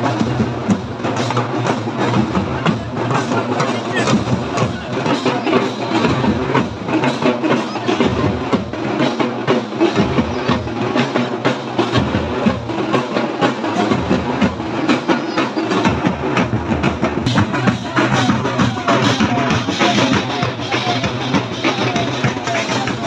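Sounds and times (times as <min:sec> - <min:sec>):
drums beating fast rhythm: 0:00.0 - 0:23.0
large crowd noise: 0:00.0 - 0:23.0.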